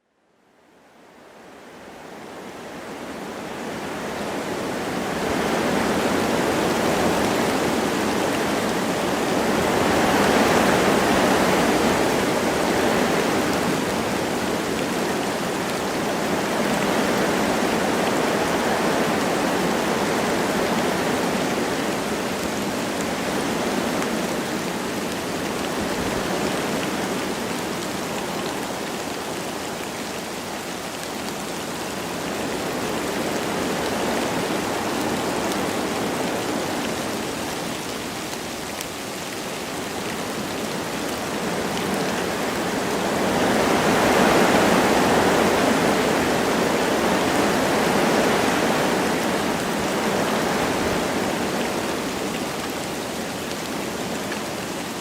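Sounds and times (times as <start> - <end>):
wind through trees: 0.0 - 55.0
light rain falling: 0.1 - 55.0.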